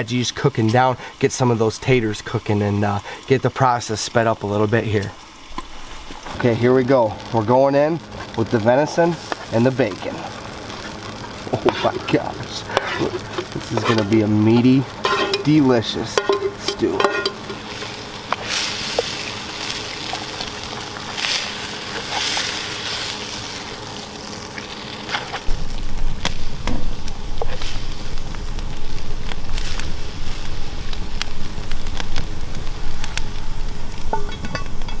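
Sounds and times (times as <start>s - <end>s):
fire popping: 0.0s - 35.0s
food sizzling in a pot: 0.0s - 35.0s
wood fire crackling: 0.0s - 35.0s.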